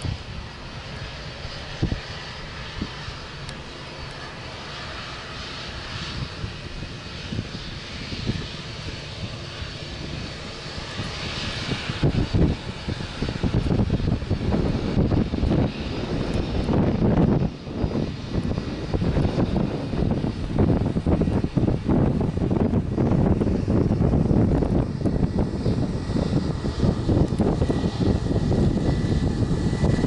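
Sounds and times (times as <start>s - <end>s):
jet engines of passing airliner: 0.0s - 30.0s
wind buffeting microphone: 0.0s - 30.0s.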